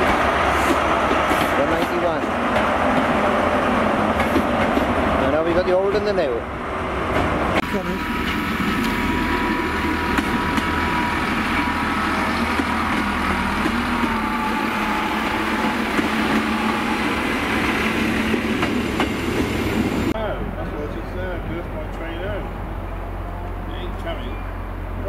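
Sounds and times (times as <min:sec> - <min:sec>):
train diesel engines humming: 0:00.0 - 0:25.0
wheels rumbling on rails: 0:00.0 - 0:25.0.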